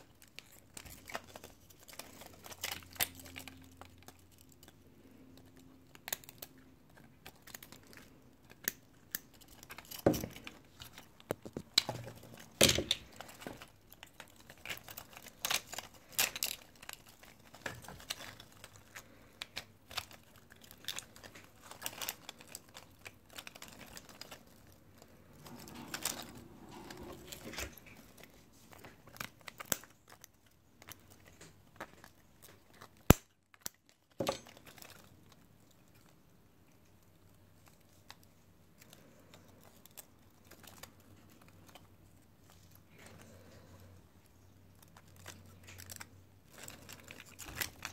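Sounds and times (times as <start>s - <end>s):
crinkling and crackling handling noise: 0.0s - 47.9s.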